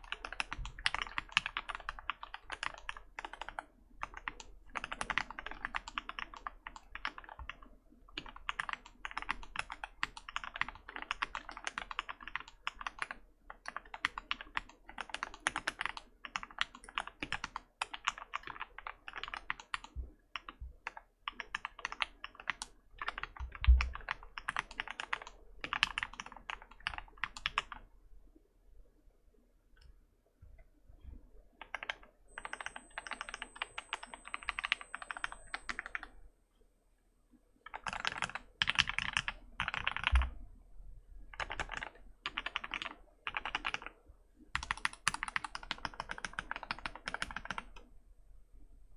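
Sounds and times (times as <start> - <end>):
typing on mechanical keyboard: 0.0 - 27.8, 31.6 - 36.2, 37.7 - 40.4, 41.3 - 44.0, 44.6 - 47.9.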